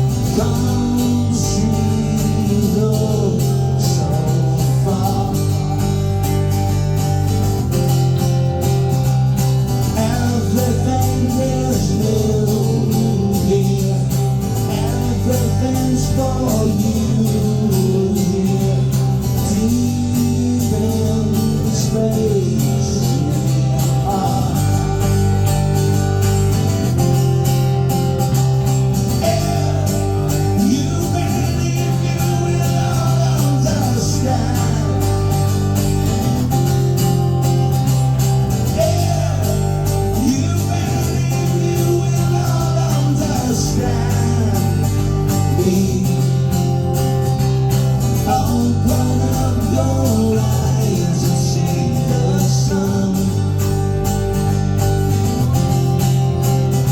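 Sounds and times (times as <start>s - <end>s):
live rock band playing: 0.0s - 56.9s.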